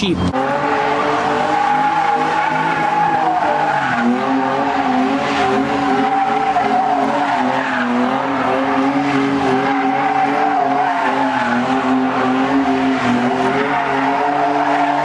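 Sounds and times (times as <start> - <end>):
car tyres squealing: 0.2 - 15.0.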